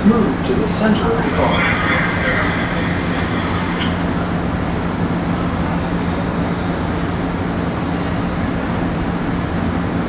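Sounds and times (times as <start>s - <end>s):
railcar equipment humming: 0.0s - 10.0s.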